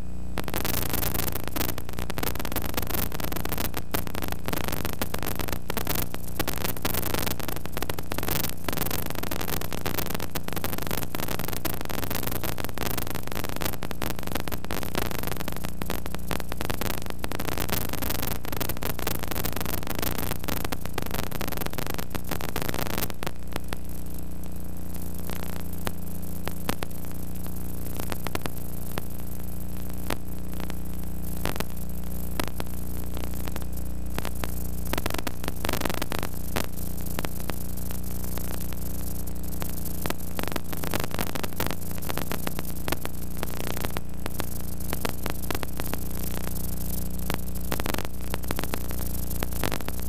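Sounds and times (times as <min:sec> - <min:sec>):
low electrical hum: 0:00.0 - 0:50.0
static hiss with crackling: 0:00.0 - 0:50.0.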